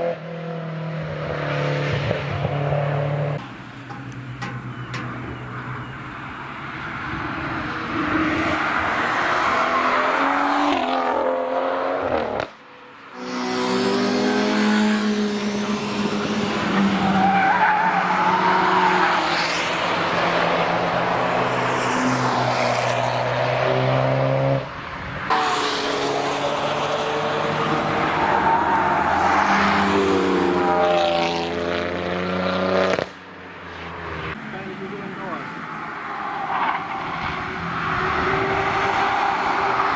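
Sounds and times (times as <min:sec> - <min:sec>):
race cars revving past: 0:00.0 - 0:03.4, 0:06.8 - 0:12.6, 0:13.2 - 0:39.9.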